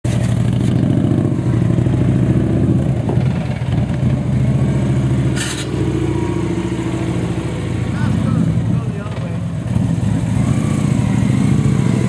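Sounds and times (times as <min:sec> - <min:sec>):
motorcycle engine running: 0:00.1 - 0:12.0.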